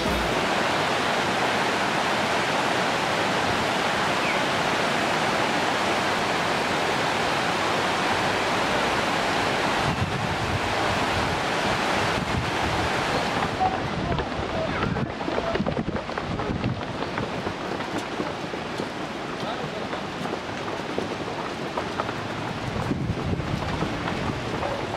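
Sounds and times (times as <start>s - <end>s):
stream rushing over stones: 0.0s - 24.9s.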